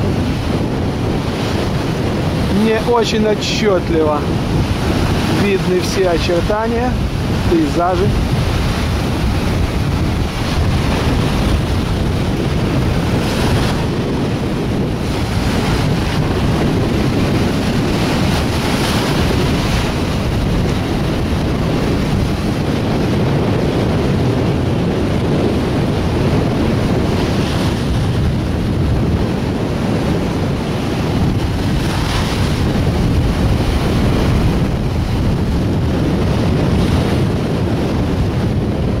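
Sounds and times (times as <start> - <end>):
surf breaking on beach: 0.0 - 39.0
wind buffeting microphone: 0.0 - 39.0.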